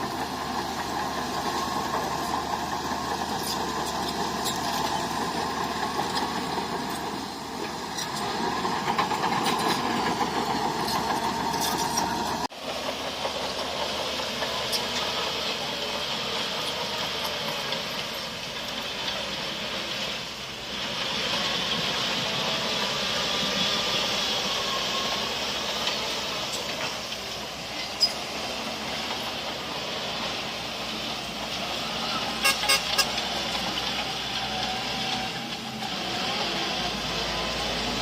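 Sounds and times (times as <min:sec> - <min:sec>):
bulldozer engine running: 0:00.0 - 0:38.0.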